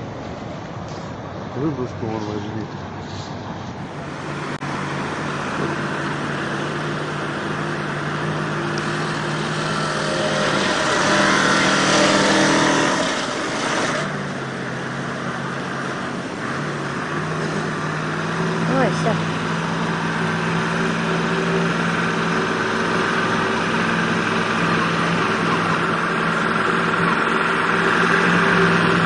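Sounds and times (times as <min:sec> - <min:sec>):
truck engine under load: 0:00.0 - 0:29.0.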